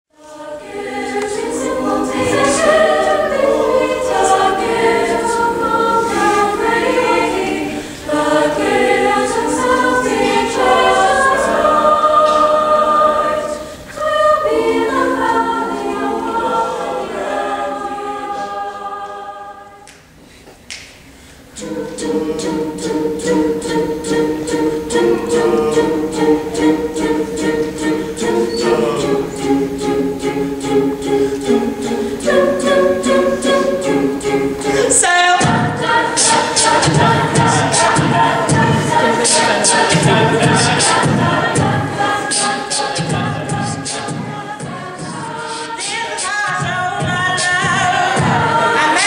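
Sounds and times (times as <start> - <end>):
choir singing in harmony: 0.1 - 20.4, 21.0 - 49.0.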